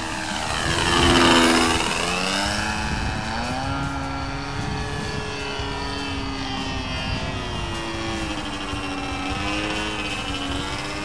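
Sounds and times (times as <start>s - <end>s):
model airplane engine passing: 0.0s - 11.0s.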